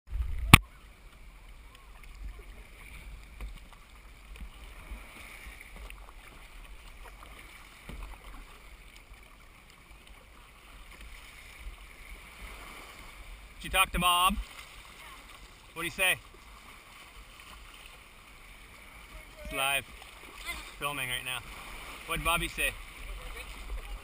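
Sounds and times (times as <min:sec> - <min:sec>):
faint water sounds: 0:00.1 - 0:24.0
kayak paddling: 0:00.1 - 0:24.0.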